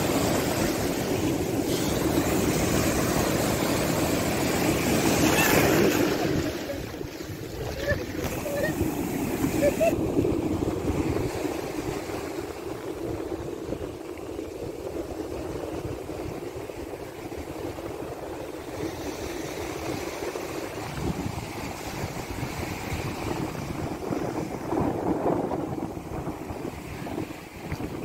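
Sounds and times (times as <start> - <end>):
surf washing on sandy beach: 0.0 - 28.0
wind buffeting microphone: 0.0 - 28.0.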